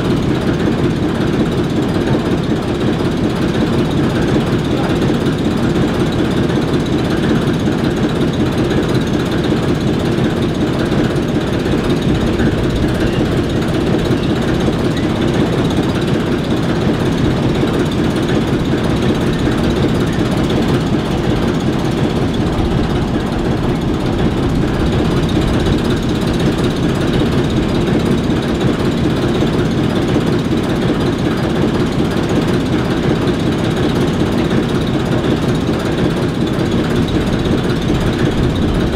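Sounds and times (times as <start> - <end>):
diesel locomotive engines idling: 0.0 - 38.9.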